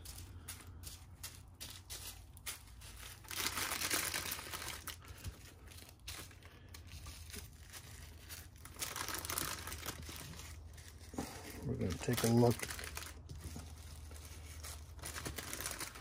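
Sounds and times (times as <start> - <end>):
plastic bags crinkling: 1.4 - 16.0.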